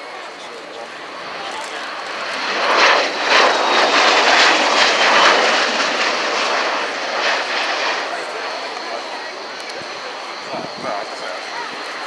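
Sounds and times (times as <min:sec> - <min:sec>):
high turbine whine: 0:00.0 - 0:12.0
tiltrotor aircraft rotors rushing: 0:00.0 - 0:12.0.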